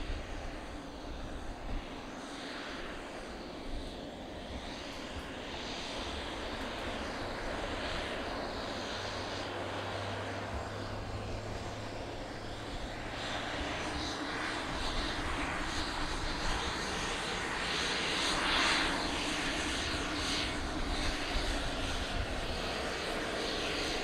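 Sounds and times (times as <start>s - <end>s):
aircraft engines running: 0.0s - 24.0s.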